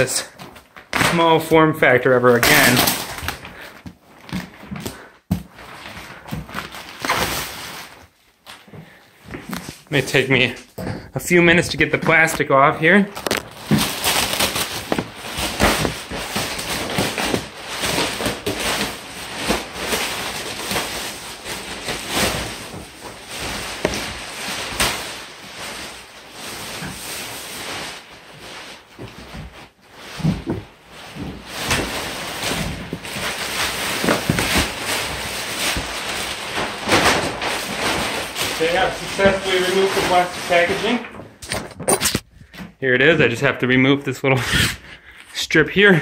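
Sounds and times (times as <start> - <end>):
plastic wrap crinkling and tearing: 0.0 - 8.7, 11.4 - 42.3.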